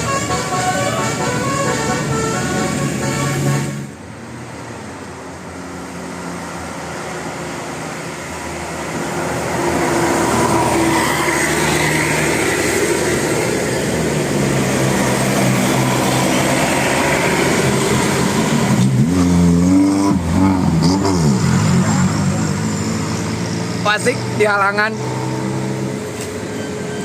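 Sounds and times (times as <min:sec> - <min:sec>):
heavy vehicle passing: 0:00.0 - 0:27.0.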